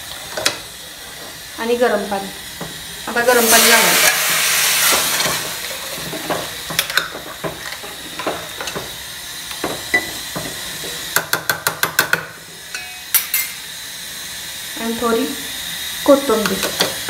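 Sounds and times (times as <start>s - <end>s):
hot water pouring and hissing: 0.0s - 17.0s.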